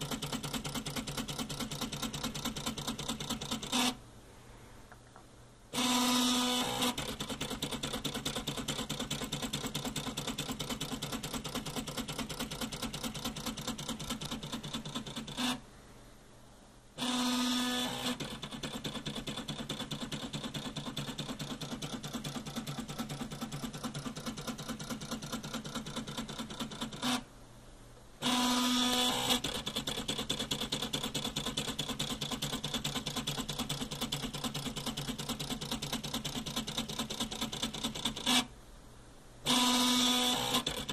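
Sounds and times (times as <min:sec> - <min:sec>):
fast mechanical clicking: 0:00.0 - 0:04.0, 0:05.7 - 0:15.6, 0:17.0 - 0:27.3, 0:28.2 - 0:38.5, 0:39.4 - 0:40.9.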